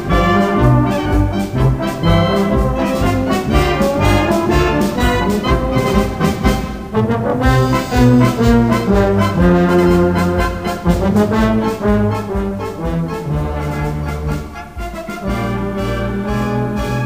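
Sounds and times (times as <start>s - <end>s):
wind band playing a march: 0.0s - 17.0s.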